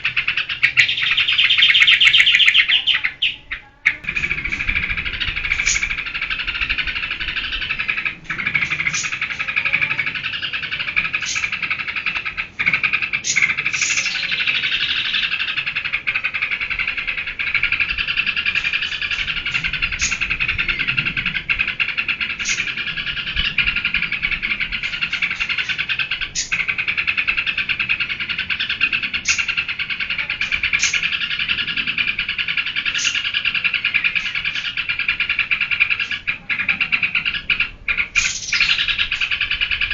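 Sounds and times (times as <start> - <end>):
bulbul singing rapid chatter: 0.0 - 39.9
high sweeping bird notes: 0.0 - 39.9.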